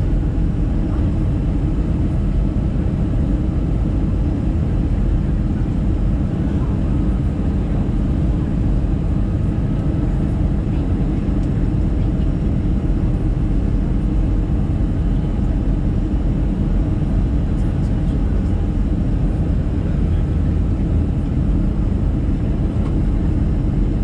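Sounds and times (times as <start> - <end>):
airflow rush in aircraft cabin: 0.0 - 24.0
jet engine drone: 0.0 - 24.0.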